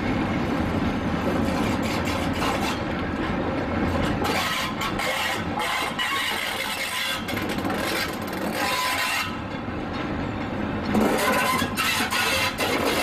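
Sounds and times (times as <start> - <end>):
locomotive wheels clanking and scraping: 1.3 - 13.0.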